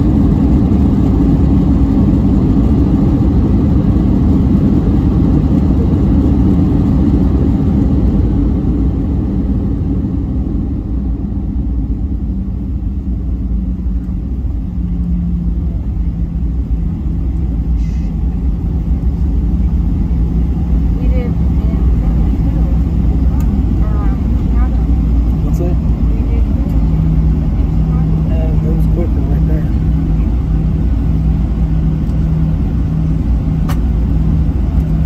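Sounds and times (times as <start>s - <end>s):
aircraft cabin rumble: 0.0s - 35.0s
steady engine hum: 0.0s - 35.0s.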